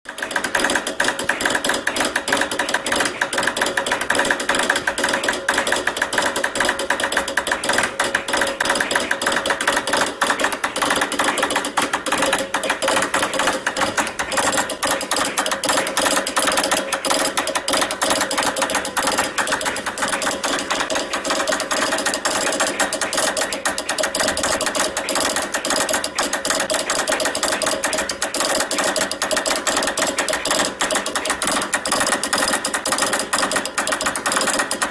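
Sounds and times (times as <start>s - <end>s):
telegraph key clicking: 0.1s - 34.9s.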